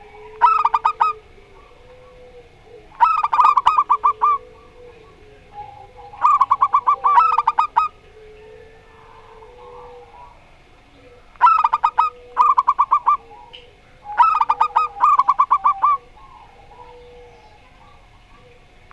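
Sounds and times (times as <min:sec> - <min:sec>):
doves cooing: 0:00.0 - 0:18.9.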